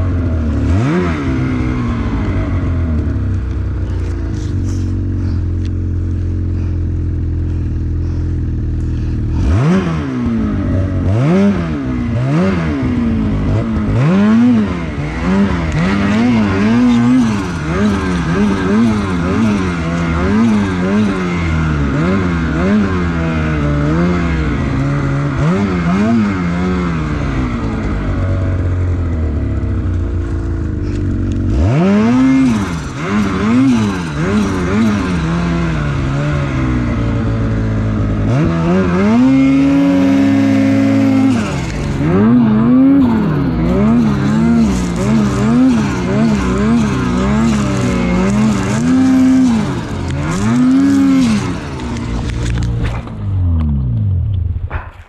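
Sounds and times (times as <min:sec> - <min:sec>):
snowmobile engine revving: 0:00.0 - 0:54.2.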